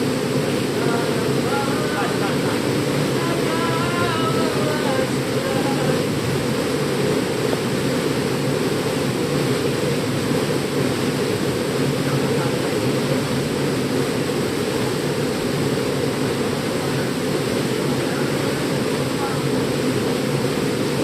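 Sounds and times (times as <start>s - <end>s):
waterfall pouring: 0.0s - 21.0s.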